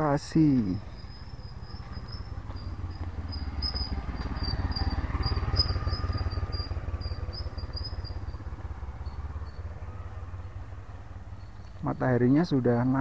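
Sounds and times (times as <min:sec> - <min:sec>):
insect chirping: 0:00.0 - 0:13.0
motorcycle passing by: 0:00.7 - 0:13.0.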